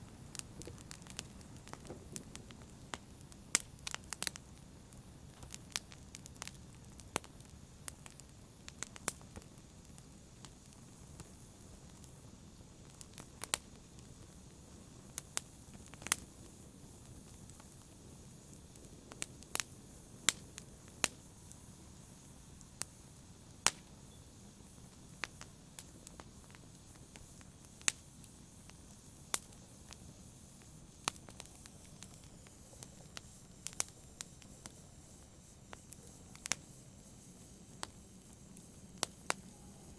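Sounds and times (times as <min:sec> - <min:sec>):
fire hiss: 0:00.0 - 0:39.9
wood fire crackling: 0:00.0 - 0:39.9.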